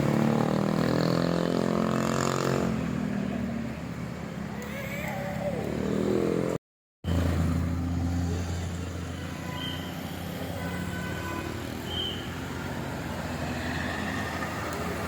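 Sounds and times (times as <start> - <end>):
road traffic noise: 0.0 - 15.0
heavy vehicle engine droning: 2.7 - 15.0.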